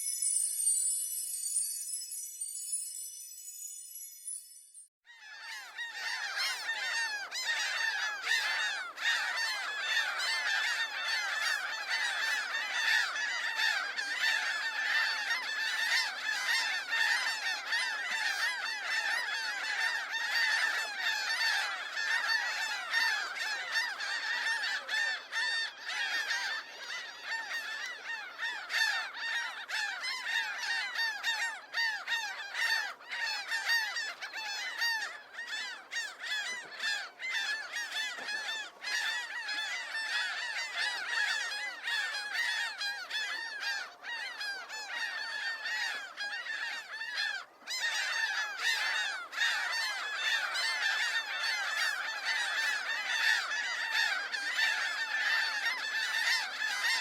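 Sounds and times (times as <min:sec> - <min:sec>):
flock of geese honking: 0:05.2 - 0:57.0.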